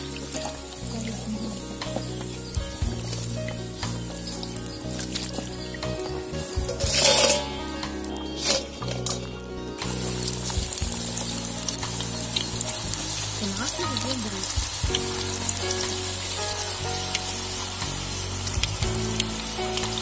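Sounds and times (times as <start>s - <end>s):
background music: 0.0s - 20.0s
chips sizzling in hot oil: 0.0s - 20.0s.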